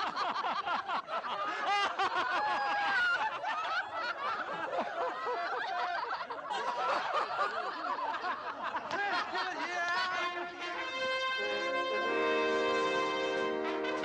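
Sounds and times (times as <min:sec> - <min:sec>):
crowd laughing: 0:00.0 - 0:14.0.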